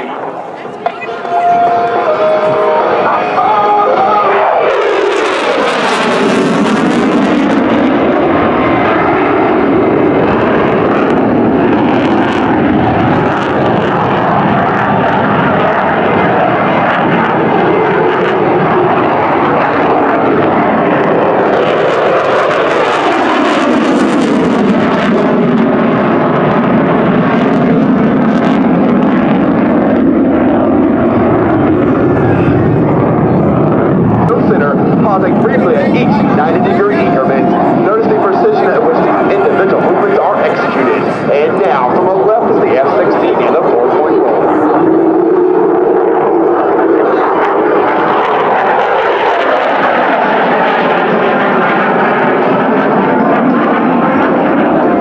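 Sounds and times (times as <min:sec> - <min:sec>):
fighter jet engine roaring: 0:00.0 - 0:55.0.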